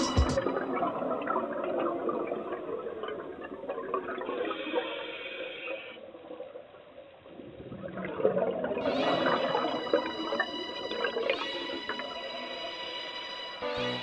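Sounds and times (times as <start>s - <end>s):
underwater bubbling and gurgling: 0.4s - 13.5s.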